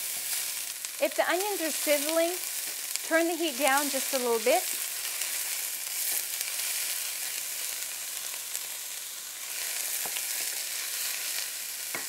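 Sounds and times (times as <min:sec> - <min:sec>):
onions sizzling in hot fat: 0:00.0 - 0:12.0.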